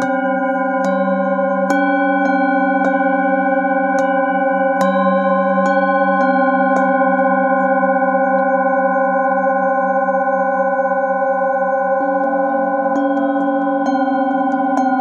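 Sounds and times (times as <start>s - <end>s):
metal singing bowls ringing: 0.0s - 15.0s.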